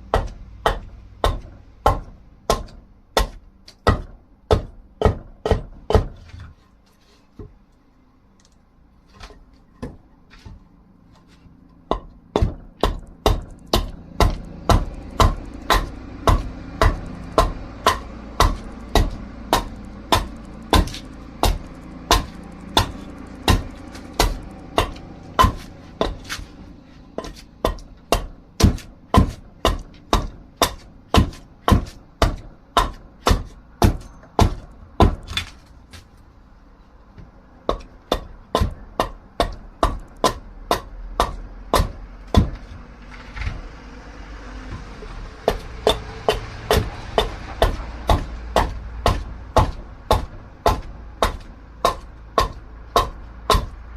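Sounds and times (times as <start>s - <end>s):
blade chopping dry wood: 0.1s - 6.6s, 9.1s - 36.1s, 37.2s - 43.7s, 44.7s - 53.9s.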